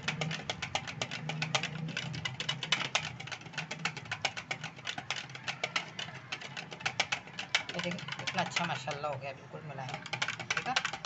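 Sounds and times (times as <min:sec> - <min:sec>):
utensil clicking against bowl: 0:00.0 - 0:11.0.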